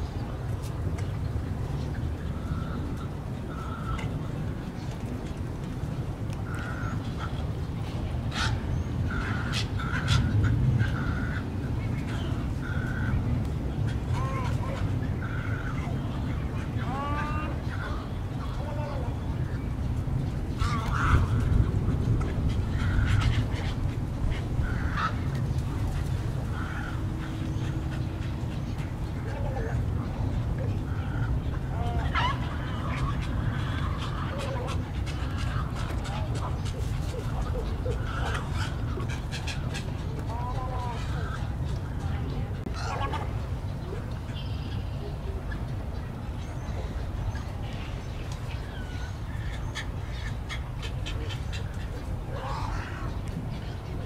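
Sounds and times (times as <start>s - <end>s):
steady low rumble: 0.0s - 54.0s
birds calling in a colony: 1.0s - 54.0s.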